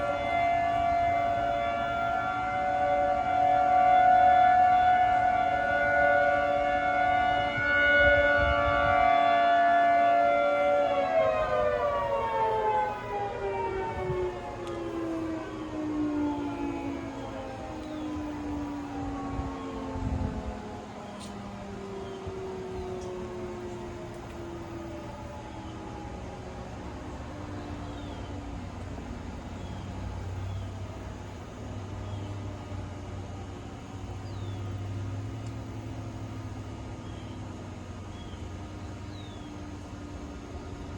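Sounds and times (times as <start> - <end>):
outdoor background rumble: 0.0 - 40.9
warning siren winding down: 0.0 - 40.9.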